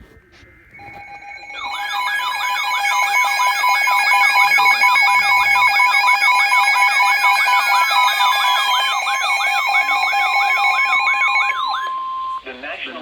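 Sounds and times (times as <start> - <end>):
two-tone attention tone: 0.7 - 12.7
fast warbling siren tone: 0.8 - 12.5.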